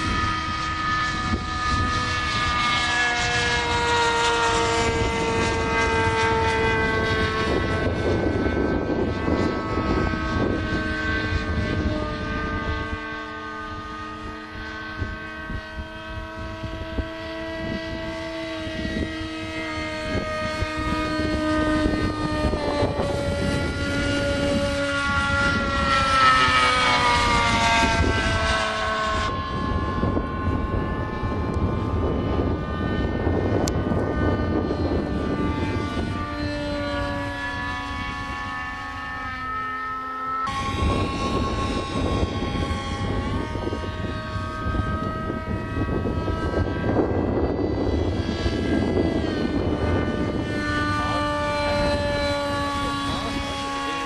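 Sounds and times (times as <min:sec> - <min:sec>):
electric motor and propeller whine: 0:00.0 - 0:54.0.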